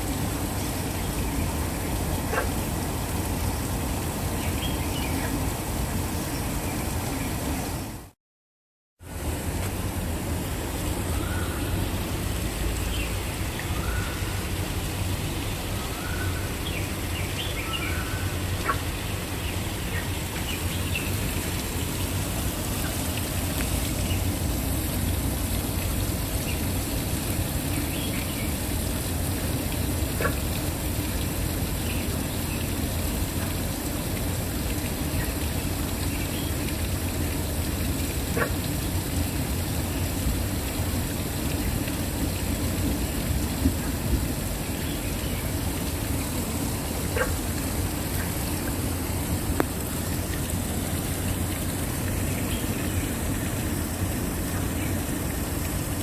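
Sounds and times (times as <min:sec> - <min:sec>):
waterfall rushing: 0:00.0 - 0:08.1, 0:09.0 - 0:56.0.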